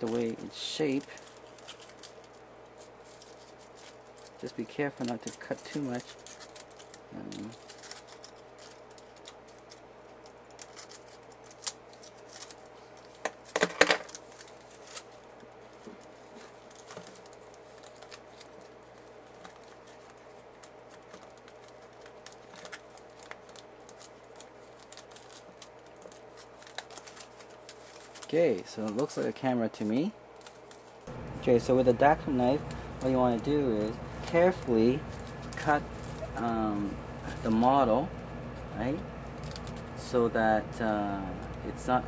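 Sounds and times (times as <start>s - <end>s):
foil crinkling and rustling: 0.0s - 40.3s.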